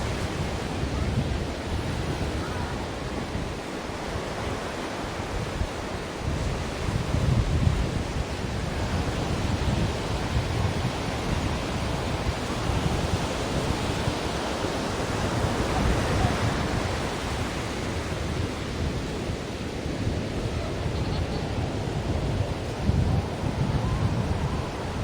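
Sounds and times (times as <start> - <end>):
ocean waves surf: 0.0 - 25.0.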